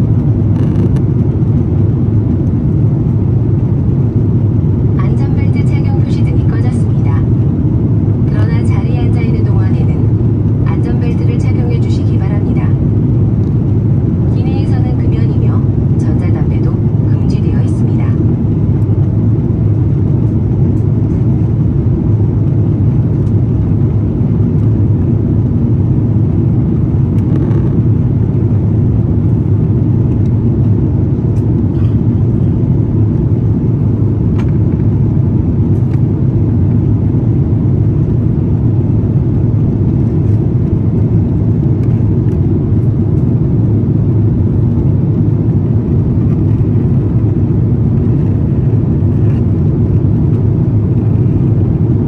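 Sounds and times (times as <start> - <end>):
airliner cabin engine rumble: 0.0 - 52.0.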